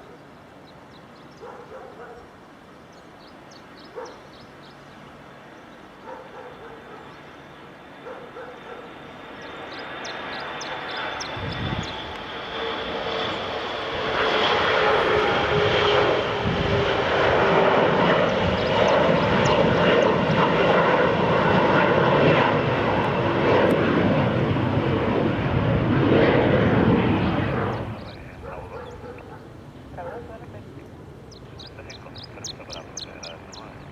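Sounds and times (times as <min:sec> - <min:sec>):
airliner engines roaring: 0:00.0 - 0:33.9.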